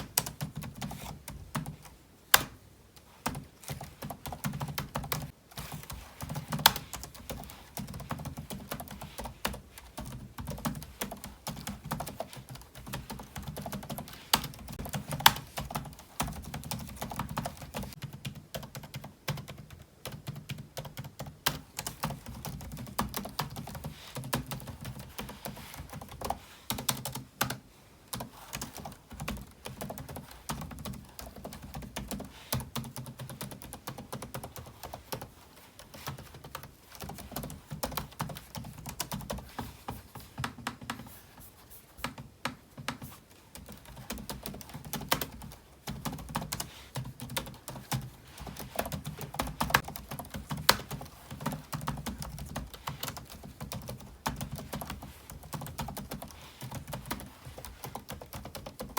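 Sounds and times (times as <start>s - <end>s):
typing on computer keyboard: 0.0s - 2.6s, 3.2s - 41.2s, 42.0s - 58.9s.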